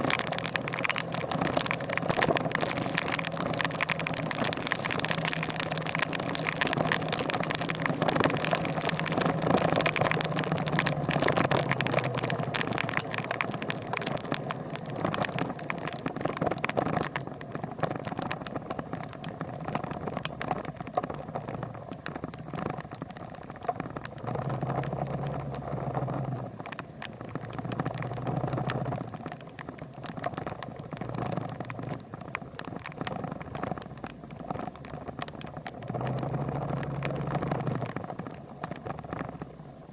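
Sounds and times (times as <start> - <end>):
small rattles: 0.0 - 39.5
road and wind noise: 0.0 - 39.9.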